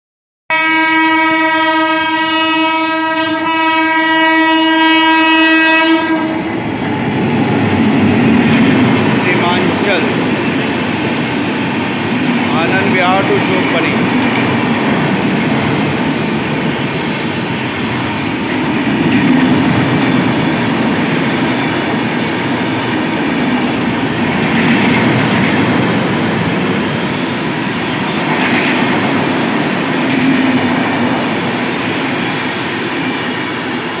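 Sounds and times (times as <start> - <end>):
train wheels clattering on rails: 6.1 - 34.0.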